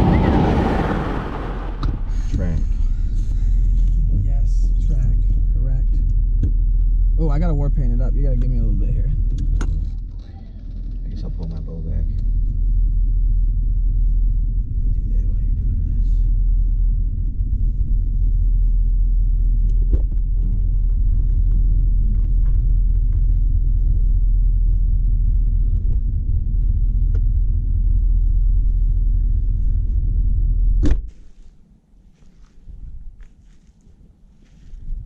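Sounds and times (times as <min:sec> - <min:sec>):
loud low rumble: 0:00.0 - 0:10.2, 0:10.9 - 0:31.1.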